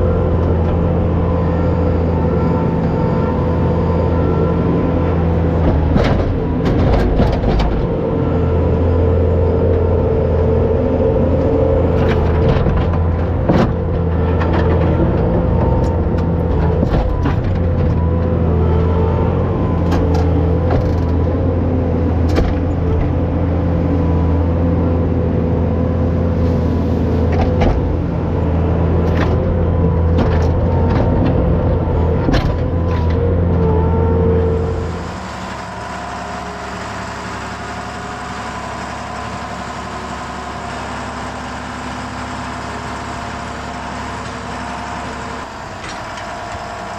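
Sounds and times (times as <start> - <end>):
farm machine engine running: 0.0 - 46.9.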